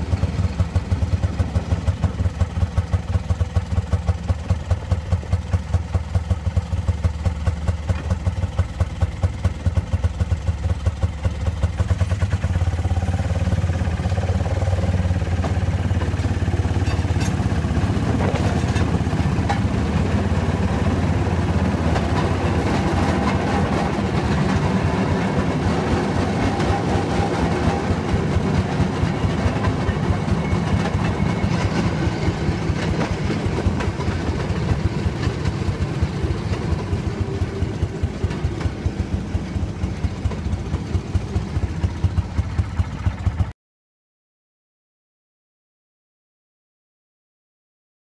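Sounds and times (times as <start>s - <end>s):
railroad speeder engine running: 0.0s - 43.5s.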